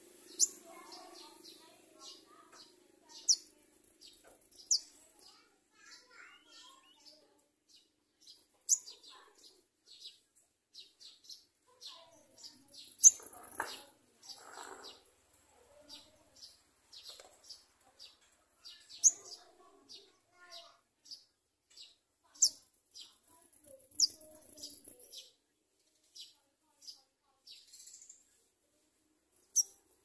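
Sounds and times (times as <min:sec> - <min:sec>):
bird chirping: 0:00.2 - 0:15.1, 0:15.7 - 0:28.4, 0:29.4 - 0:30.0.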